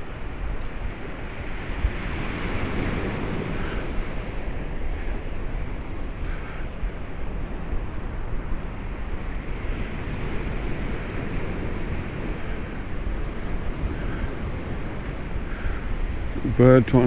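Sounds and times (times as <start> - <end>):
sea surf: 0.0 - 17.0
wind rumbling on microphone: 0.0 - 17.0.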